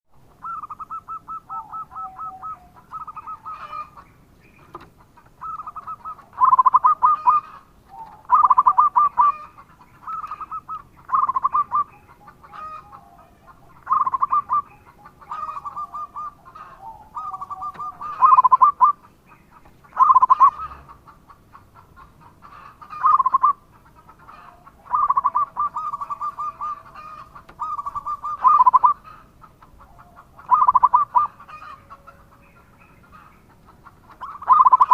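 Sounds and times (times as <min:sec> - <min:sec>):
dove cooing: 0:00.3 - 0:04.0, 0:04.6 - 0:19.1, 0:19.9 - 0:21.1, 0:22.3 - 0:34.9.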